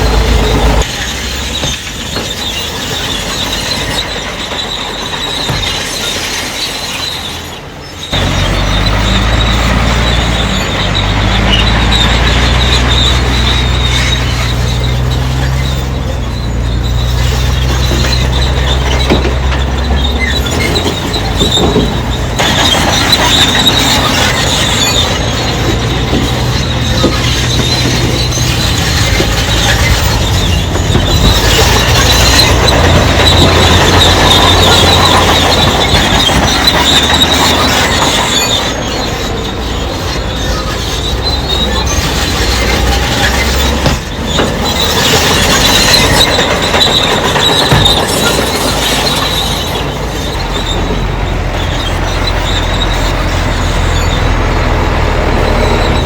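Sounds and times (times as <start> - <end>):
bulldozer diesel engine running: 0.0 - 56.0
steel tracks squealing and clanking: 0.0 - 56.0.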